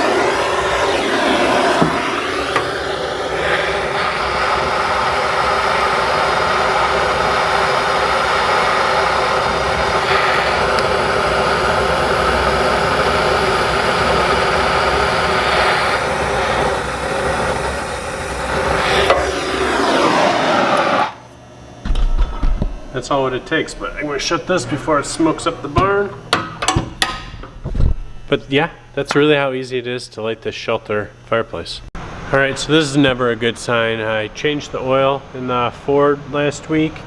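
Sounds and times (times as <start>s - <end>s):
draft fan motor whining: 0.0s - 37.0s.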